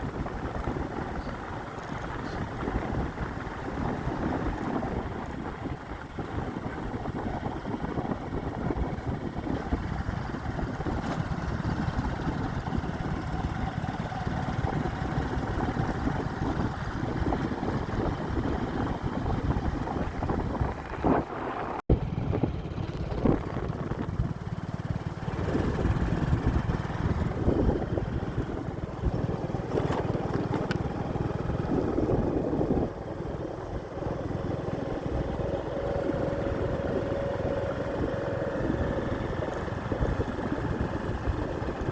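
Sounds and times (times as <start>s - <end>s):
motorbike engine running: 0.0s - 41.9s
wind buffeting microphone: 0.0s - 41.9s.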